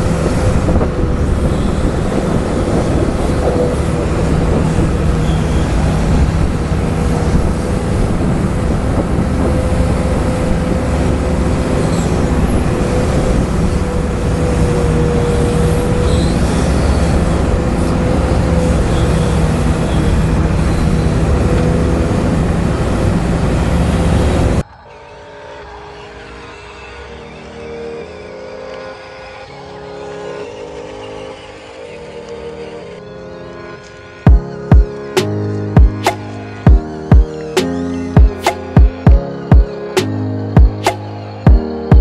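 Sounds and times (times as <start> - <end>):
model excavator motors whining: 0.0 - 36.5.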